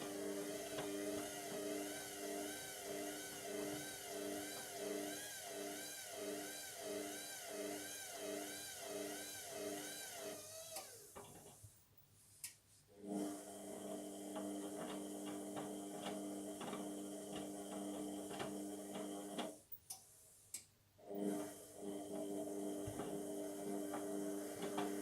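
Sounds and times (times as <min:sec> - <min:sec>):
washing machine motor whining: 0:00.0 - 0:11.2, 0:13.0 - 0:19.6, 0:21.1 - 0:25.0.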